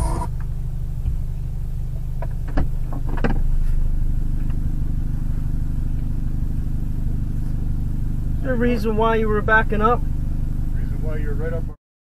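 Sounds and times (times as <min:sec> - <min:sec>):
vehicle engine idling: 0:00.0 - 0:11.8.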